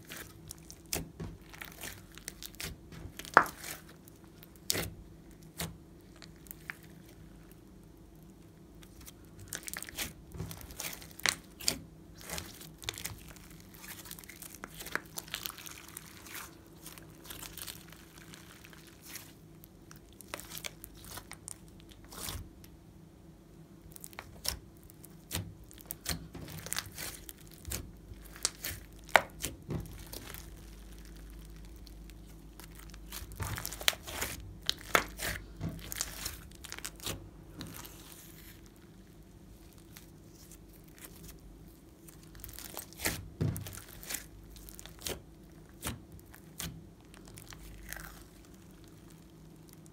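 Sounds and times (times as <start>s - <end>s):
slime crackling and popping: 0.0s - 22.7s, 23.9s - 49.9s.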